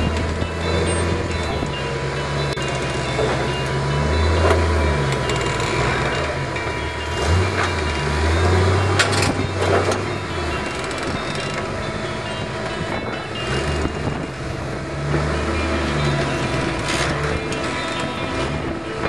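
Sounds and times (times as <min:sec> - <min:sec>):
engine revving in bursts: 0:02.4 - 0:18.8.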